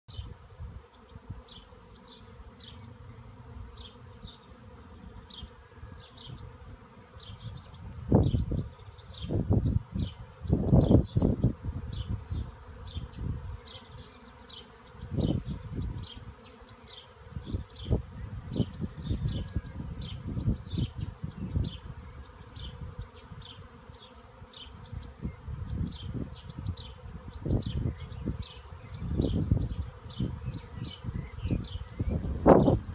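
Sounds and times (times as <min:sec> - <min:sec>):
bees buzzing: 0:00.1 - 0:32.9.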